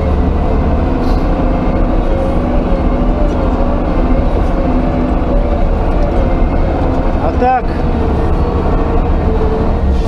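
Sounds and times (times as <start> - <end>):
diesel engine rumble: 0.0 - 10.0
wavering whine: 0.0 - 10.0.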